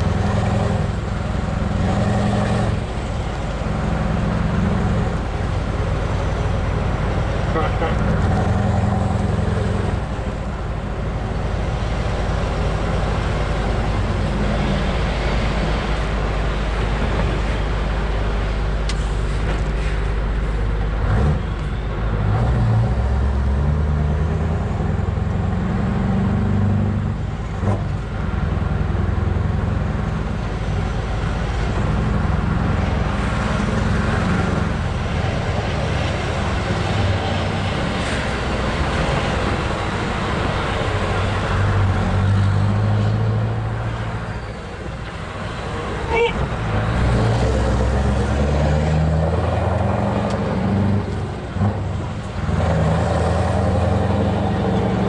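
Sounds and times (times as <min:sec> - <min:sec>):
diesel truck engine running: 0:00.0 - 0:55.0
road noise: 0:00.0 - 0:55.0.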